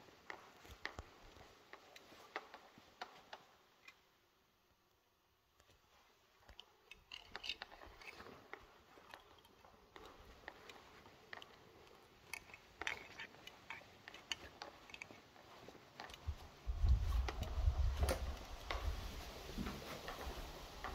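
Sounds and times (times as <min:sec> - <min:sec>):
footsteps on stone floor: 0:00.0 - 0:03.5, 0:05.6 - 0:20.9.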